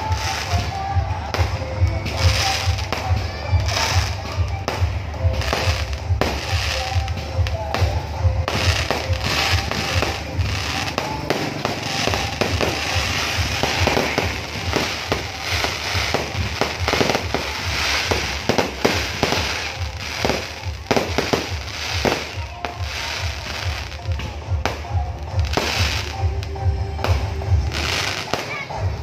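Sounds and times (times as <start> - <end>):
fireworks bursting and crackling: 0.0 - 29.0
music with steady bass: 0.0 - 29.0.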